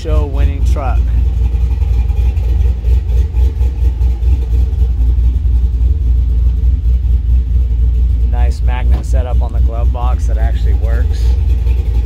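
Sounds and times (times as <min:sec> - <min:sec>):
car engine idling with lumpy rumble: 0:00.0 - 0:12.0.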